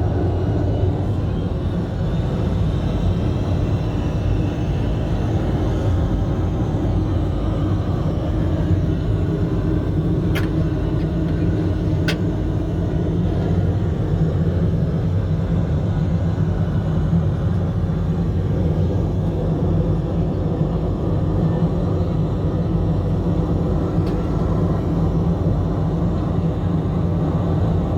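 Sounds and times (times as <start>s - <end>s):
airliner cabin drone: 0.0s - 27.9s.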